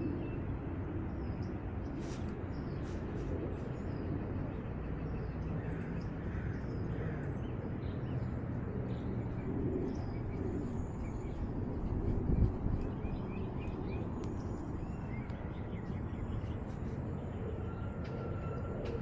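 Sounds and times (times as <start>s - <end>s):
low rumbling on microphone: 0.0s - 19.0s.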